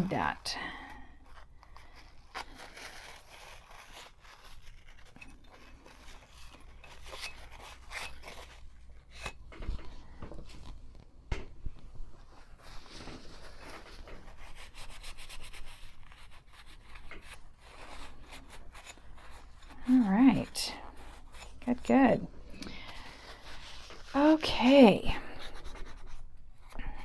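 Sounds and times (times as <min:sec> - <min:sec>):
rubbing and scraping: 0:00.0 - 0:27.0.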